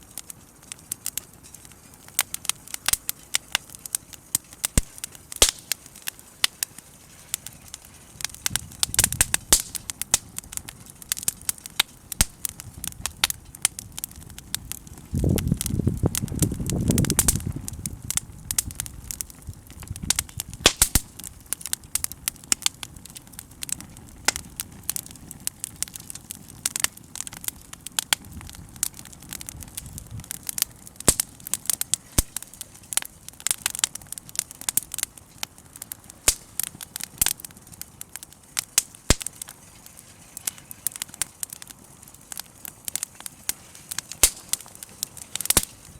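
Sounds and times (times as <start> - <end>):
bonfire crackling and popping: 0.0 - 45.9.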